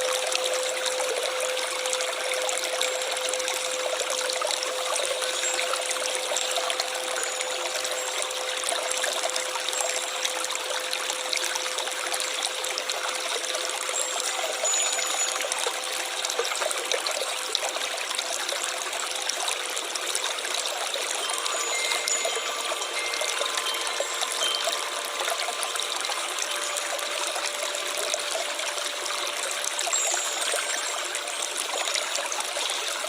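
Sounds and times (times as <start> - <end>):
stream water trickling: 0.0 - 33.0.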